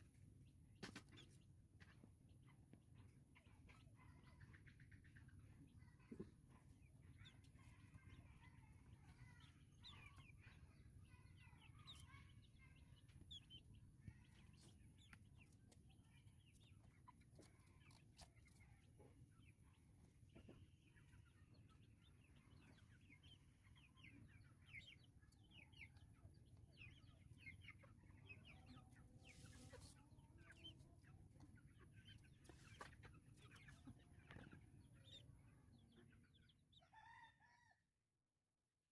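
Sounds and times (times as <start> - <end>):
chicks peeping and chirping: 0.0 - 37.7.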